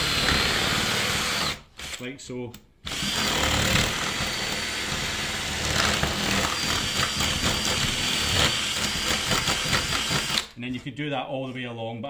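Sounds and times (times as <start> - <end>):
power drill grinding through plastic: 0.0 - 2.0, 2.8 - 10.6.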